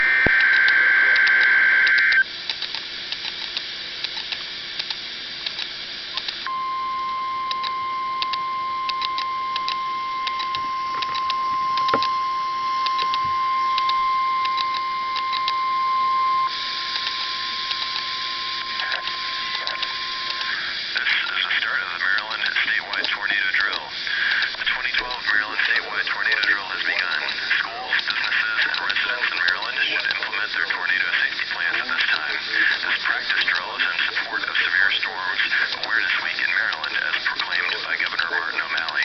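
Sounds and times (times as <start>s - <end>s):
crackling radio static: 0.0s - 39.0s.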